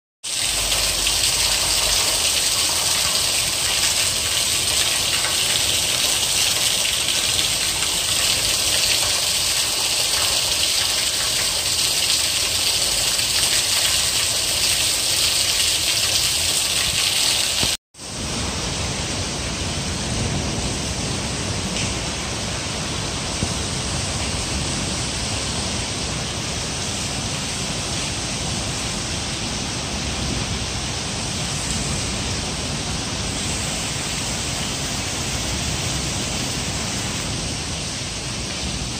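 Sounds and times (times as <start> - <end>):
heavy rain pouring: 0.2 - 38.9.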